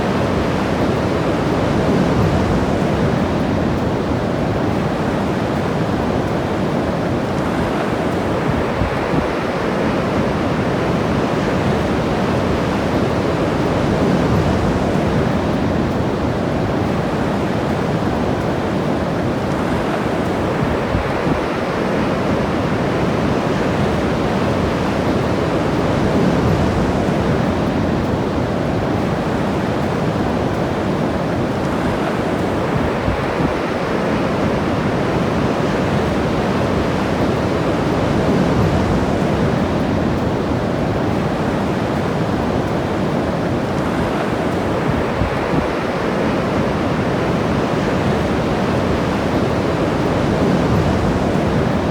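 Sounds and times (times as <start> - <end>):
ocean surf washing ashore: 0.0 - 51.9.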